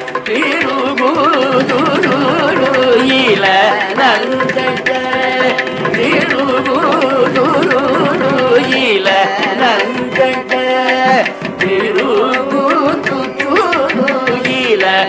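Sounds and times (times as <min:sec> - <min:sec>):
mridangam drum strokes: 0:00.0 - 0:15.0
sliding ornamented melodic line: 0:00.0 - 0:15.0.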